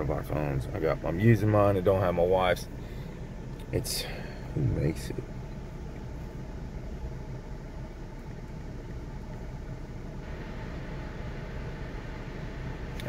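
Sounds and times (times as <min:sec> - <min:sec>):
air noise: 0:00.0 - 0:13.0
car engine idling: 0:00.0 - 0:13.0.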